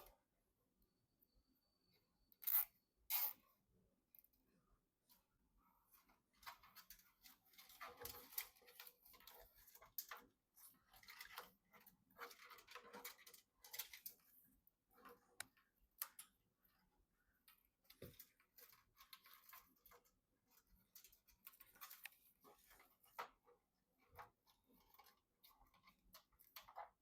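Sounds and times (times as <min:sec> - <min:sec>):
faint clicks taps and rustling: 0:05.0 - 0:27.0.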